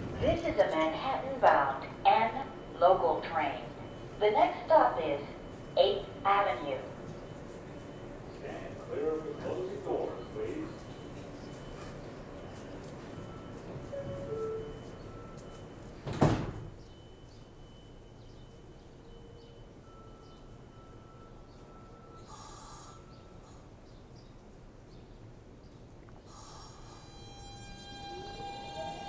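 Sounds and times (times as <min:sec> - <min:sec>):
subway train faint steady hum: 0:00.0 - 0:29.0.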